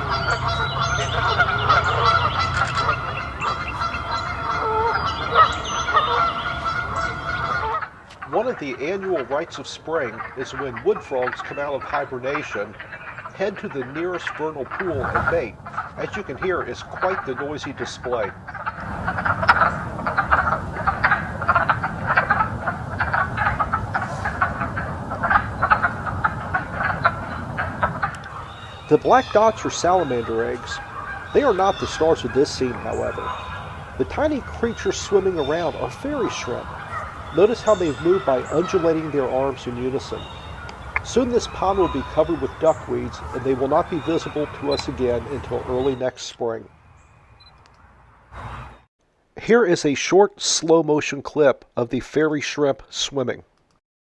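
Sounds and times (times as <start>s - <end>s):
frogs chorus: 0.0s - 48.8s
geese honking: 0.0s - 49.6s.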